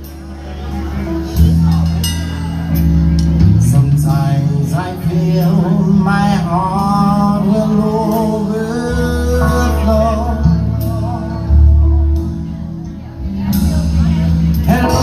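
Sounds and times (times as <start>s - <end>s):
soul band playing: 0.0s - 15.0s.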